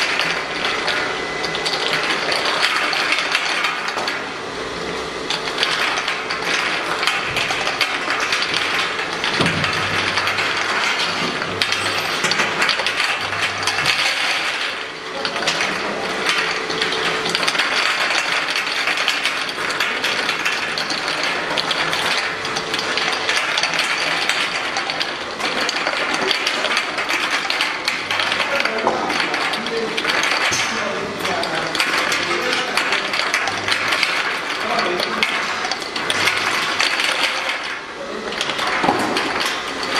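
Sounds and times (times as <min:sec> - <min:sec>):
faint machine hum: 0:00.0 - 0:39.9.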